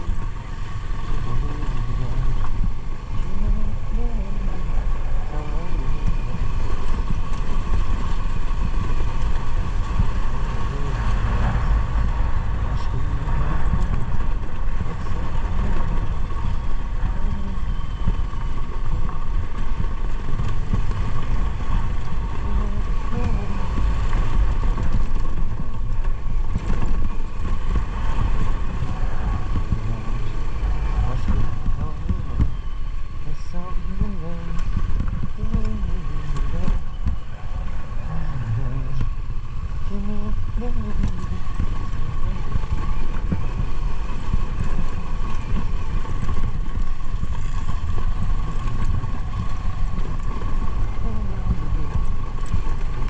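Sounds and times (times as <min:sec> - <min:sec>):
motorcycle engine rumbling: 0:00.0 - 0:53.0
wind buffeting microphone: 0:00.0 - 0:53.0.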